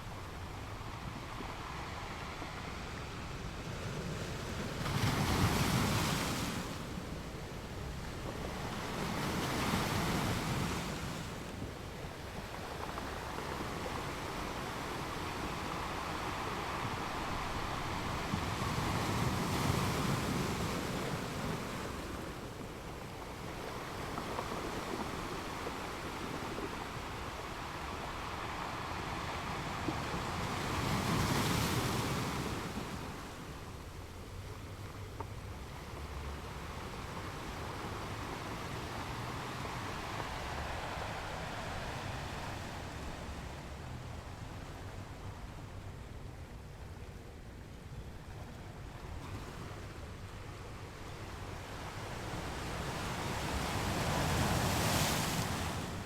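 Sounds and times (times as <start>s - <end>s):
ocean waves washing on beach: 0.0s - 56.0s.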